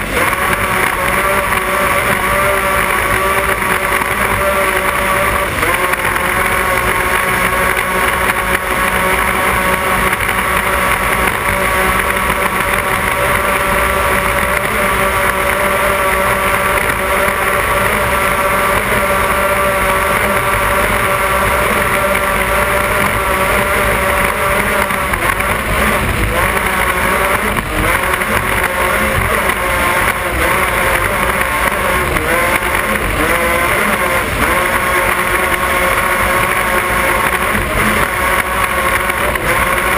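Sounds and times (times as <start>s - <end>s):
powerboat engines running: 0.0s - 39.9s.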